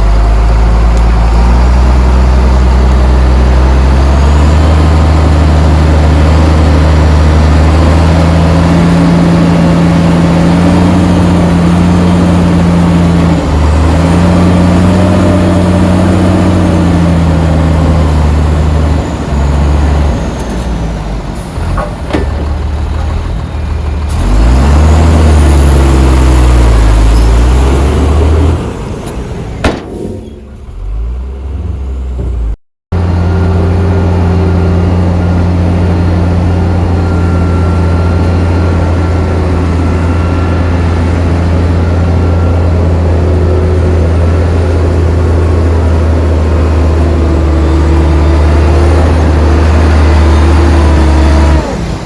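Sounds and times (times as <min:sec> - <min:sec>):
heavy diesel engine revving: 0:00.0 - 0:52.0.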